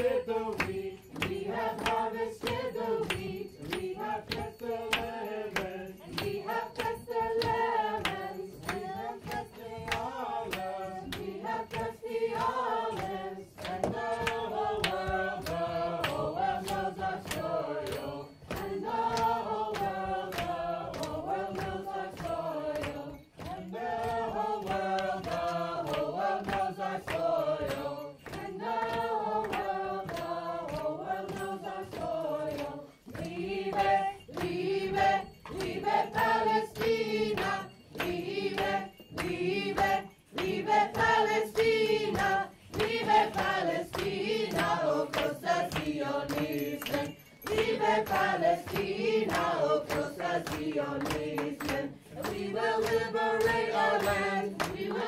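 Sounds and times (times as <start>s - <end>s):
group singing a chant: 0.0s - 55.0s
hand clapping: 0.0s - 55.0s.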